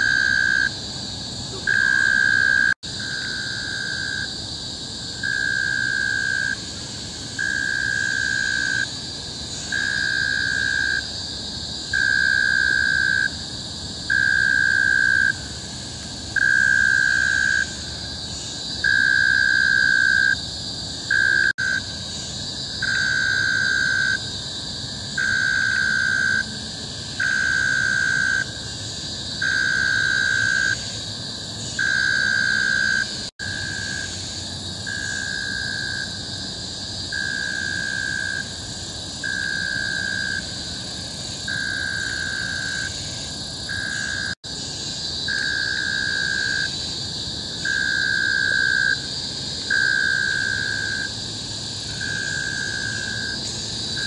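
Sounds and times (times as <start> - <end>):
cicadas chorus shrilling: 0.0 - 54.0
pulsing lower insect tone: 0.0 - 54.0.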